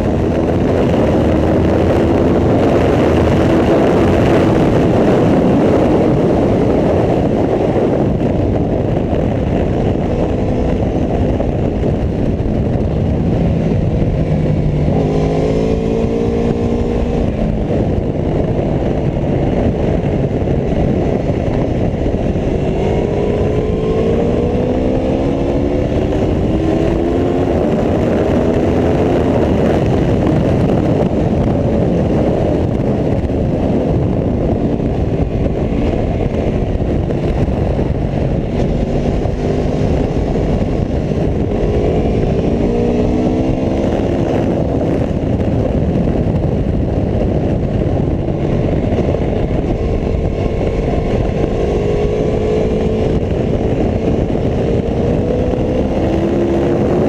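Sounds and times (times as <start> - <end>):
motorcycle engine accelerating: 0.0 - 57.0
rush of wind: 0.0 - 57.0.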